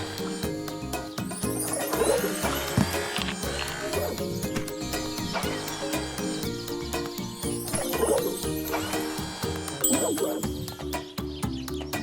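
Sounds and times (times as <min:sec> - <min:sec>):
upbeat background music: 0:00.0 - 0:12.0.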